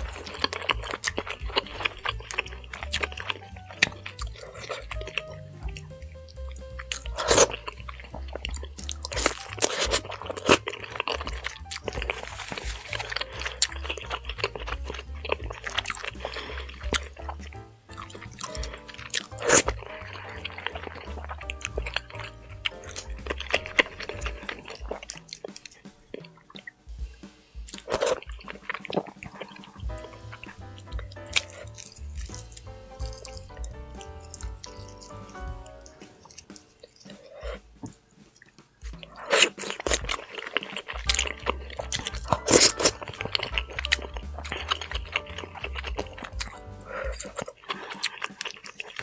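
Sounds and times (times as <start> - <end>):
background music: 0.0 - 49.0
fingers squishing through soup: 0.0 - 49.0
wet chewing: 0.0 - 49.0.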